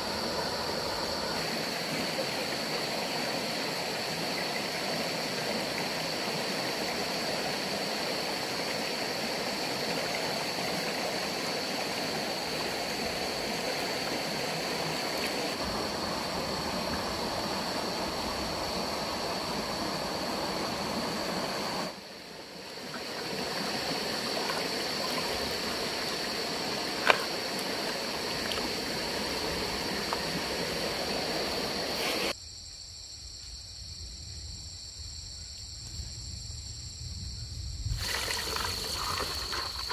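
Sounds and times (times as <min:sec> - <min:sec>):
stream running over gravel: 0:00.0 - 0:32.3, 0:37.9 - 0:39.9
night insects chirring: 0:00.0 - 0:39.9.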